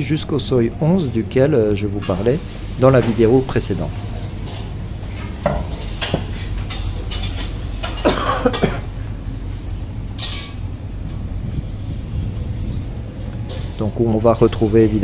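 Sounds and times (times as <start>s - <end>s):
steady low street hum: 0.0s - 15.0s.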